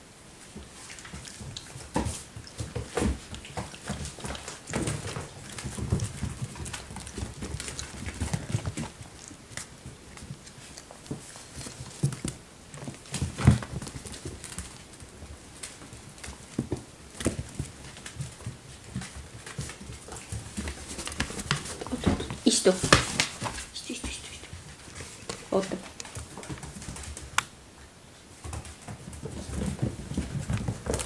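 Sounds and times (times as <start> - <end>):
puppy claws clicking on floor: 0.6 - 27.5, 28.4 - 31.0.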